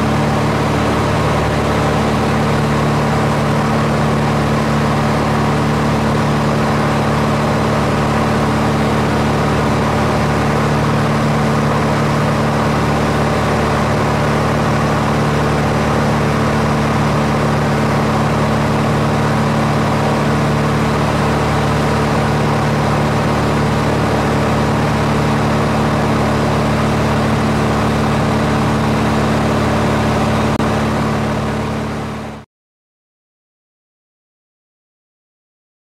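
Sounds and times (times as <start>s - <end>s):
aircraft engine drone: 0.0s - 32.4s.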